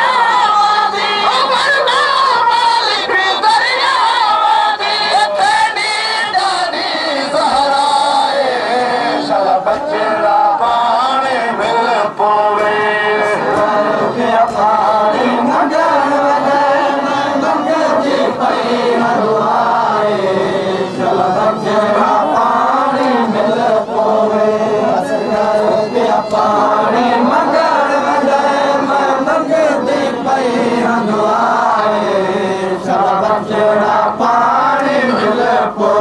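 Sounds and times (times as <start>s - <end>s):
men chanting in unison: 0.0s - 36.0s.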